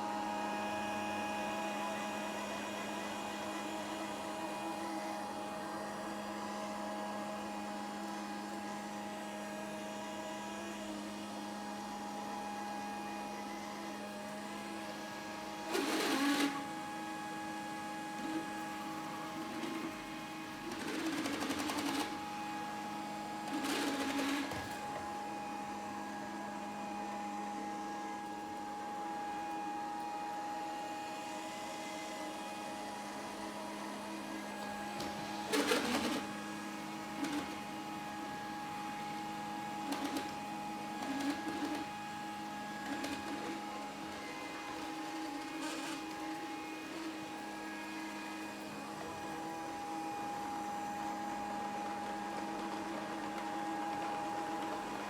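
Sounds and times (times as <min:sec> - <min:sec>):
robot vacuum cleaner motor hum: 0:00.0 - 0:55.0.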